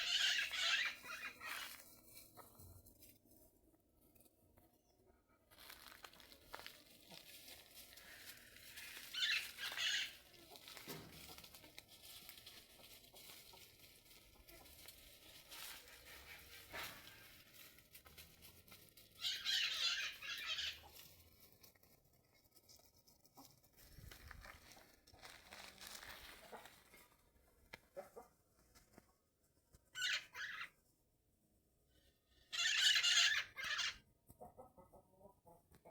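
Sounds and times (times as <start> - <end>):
faint chickens: 0.0 - 35.9.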